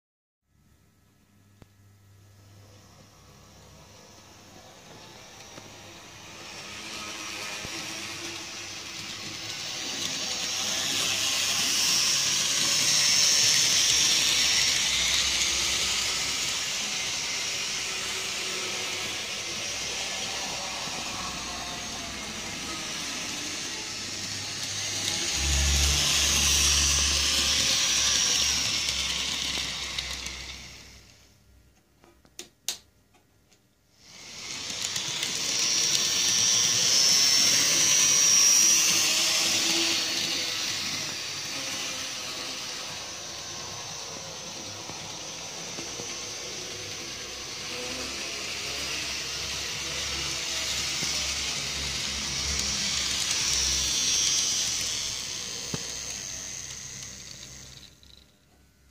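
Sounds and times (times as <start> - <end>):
model train motor whirring: 2.8 - 31.3, 34.0 - 58.9.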